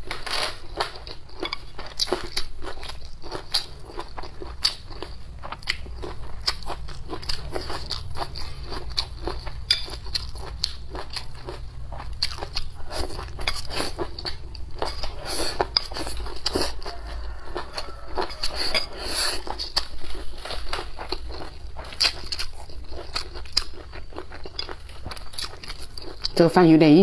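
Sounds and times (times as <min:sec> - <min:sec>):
wet chewing crunches: 0:00.0 - 0:26.4.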